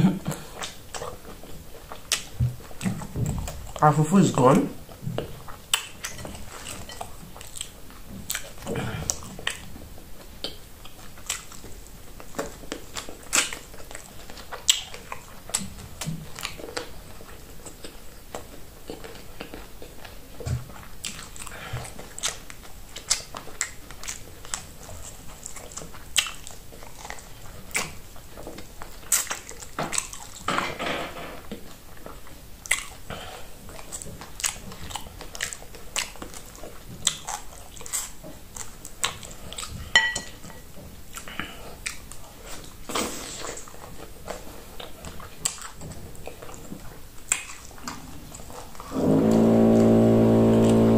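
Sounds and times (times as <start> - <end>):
person chewing food: 0.0 - 3.8, 4.7 - 50.9
mouth clicks and smacks: 0.0 - 3.9, 4.5 - 30.6, 31.5 - 39.8, 41.1 - 48.9.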